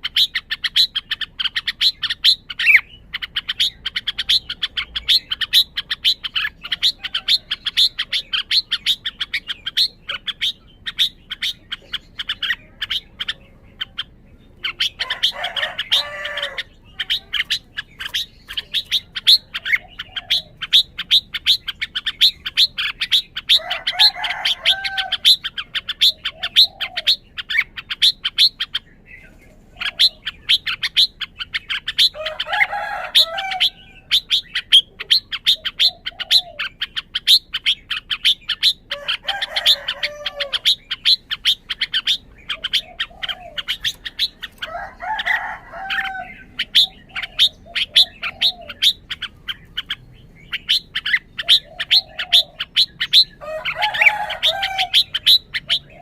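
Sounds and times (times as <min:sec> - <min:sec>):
bird singing warbled phrases: 0:00.0 - 0:56.0.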